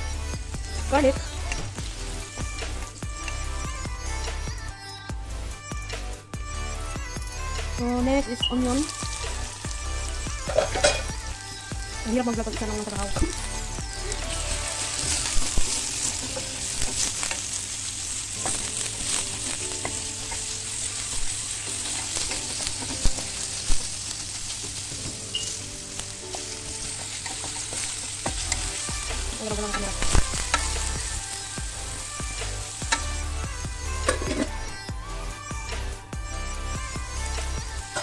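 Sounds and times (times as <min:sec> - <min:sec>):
onions sizzling in hot oil: 0:00.0 - 0:04.6, 0:06.3 - 0:38.0.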